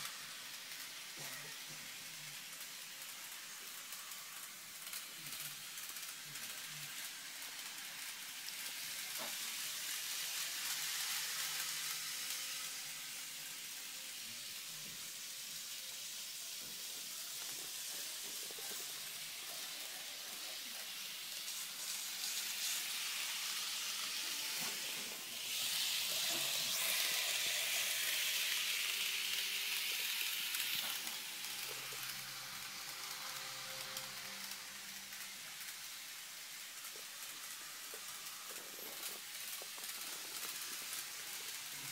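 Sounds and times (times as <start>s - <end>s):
model train whirring on track: 0.0s - 41.9s.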